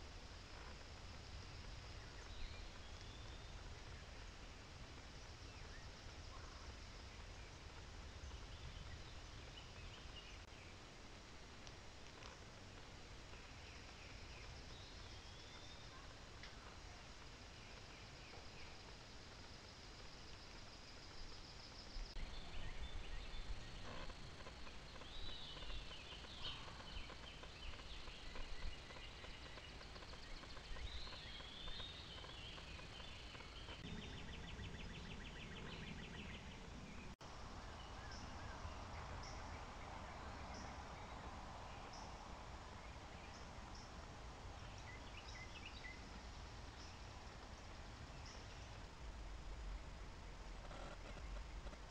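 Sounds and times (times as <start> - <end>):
faint steady hiss: 0.0 - 51.9.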